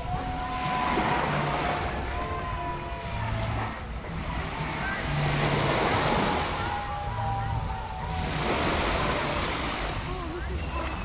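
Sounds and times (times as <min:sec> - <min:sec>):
small waves washing on sand: 0:00.0 - 0:11.0
wind on the microphone: 0:00.0 - 0:11.0.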